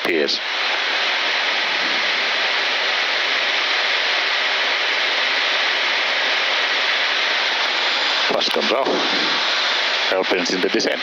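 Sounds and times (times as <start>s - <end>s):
rushing hiss of airflow: 0.0s - 11.0s.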